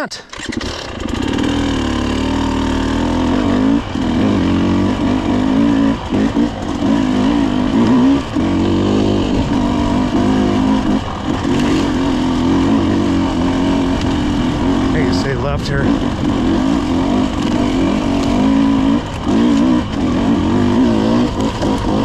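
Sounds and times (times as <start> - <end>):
dirt bike engine revving: 0.3 - 22.0.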